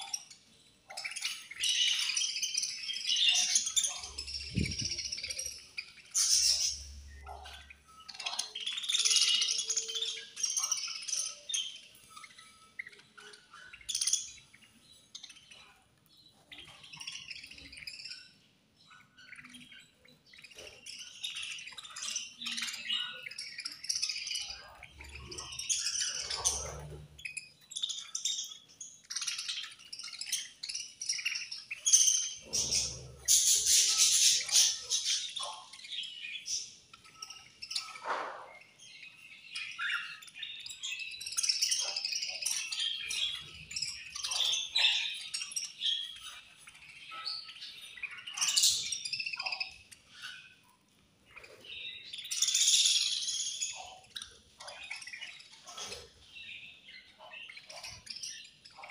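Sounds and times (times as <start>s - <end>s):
budgerigars chirping and chattering: 0.0s - 58.9s.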